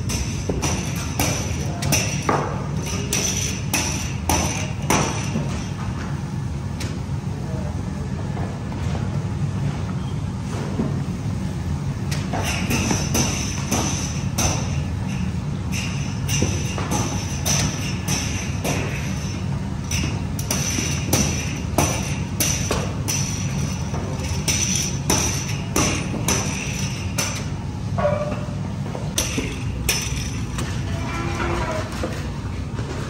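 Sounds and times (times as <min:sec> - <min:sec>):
low hum of bakery machinery: 0:00.0 - 0:33.0.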